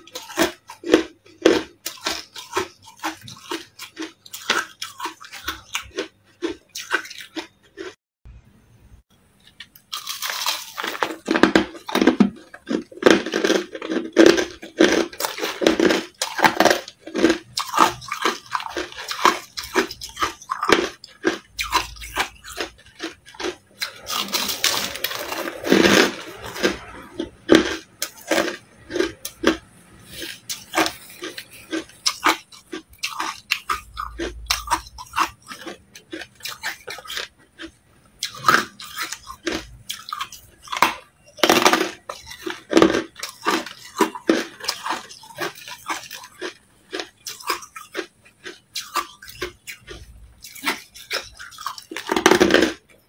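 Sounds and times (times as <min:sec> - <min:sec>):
person crunching ice: 0:00.0 - 0:07.9, 0:09.9 - 0:52.8.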